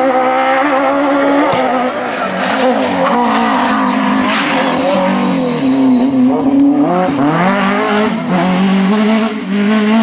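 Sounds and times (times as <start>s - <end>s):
rally car engine accelerating: 0.0s - 10.0s.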